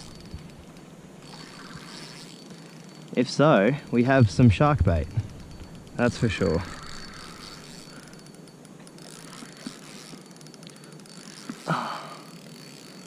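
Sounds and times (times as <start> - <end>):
fishing reel ratchet clicking: 0.0 - 4.0, 5.1 - 13.0.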